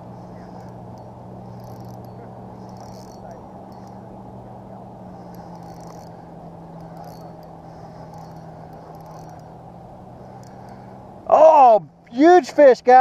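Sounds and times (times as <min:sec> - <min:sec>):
fishing reel drag buzzing: 0:00.0 - 0:11.2
steady low hum: 0:00.0 - 0:13.0.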